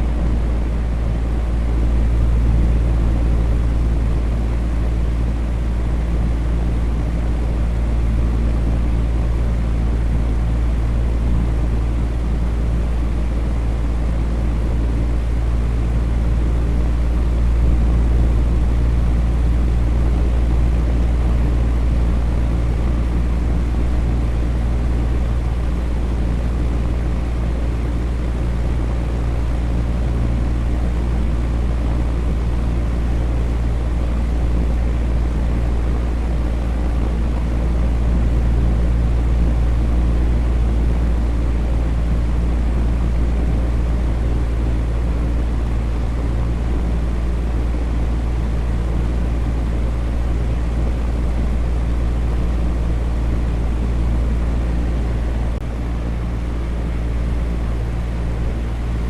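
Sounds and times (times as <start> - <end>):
electric fan whooshing: 0.0 - 59.0
low motor hum: 0.0 - 59.0.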